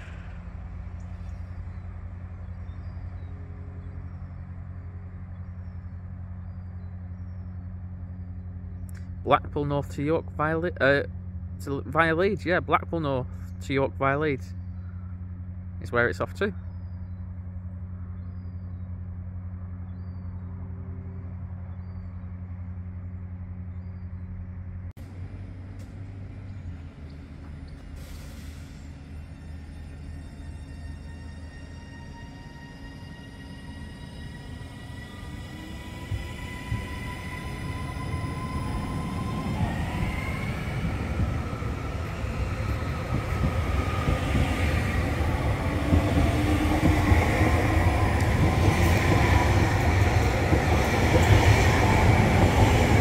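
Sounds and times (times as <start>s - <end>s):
diesel train engines droning: 0.0s - 53.0s.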